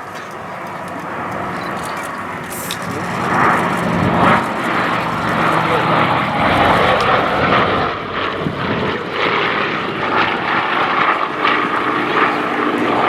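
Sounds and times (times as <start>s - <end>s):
propeller aircraft engines droning: 0.0s - 13.0s.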